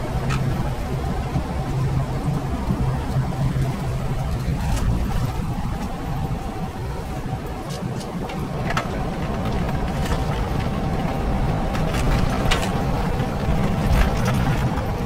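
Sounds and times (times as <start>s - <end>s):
thin constant whine: 0.0s - 15.0s
vehicle engine and road rumble: 0.0s - 15.0s.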